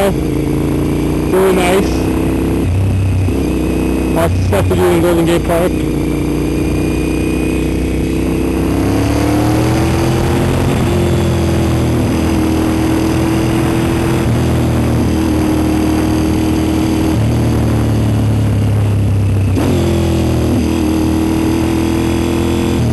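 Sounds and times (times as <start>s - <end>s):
motorcycle engine accelerating: 0.0s - 22.9s.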